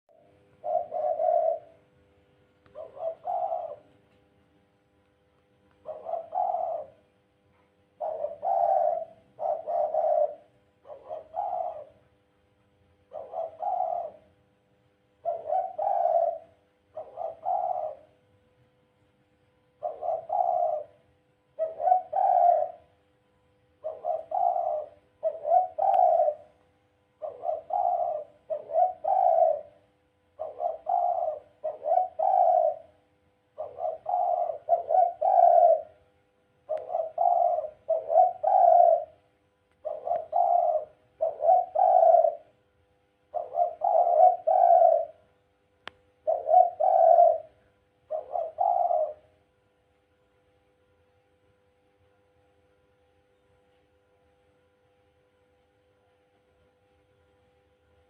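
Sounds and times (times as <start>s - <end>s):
dove cooing: 0.1s - 4.4s, 5.7s - 18.5s, 19.6s - 45.4s, 46.2s - 50.5s.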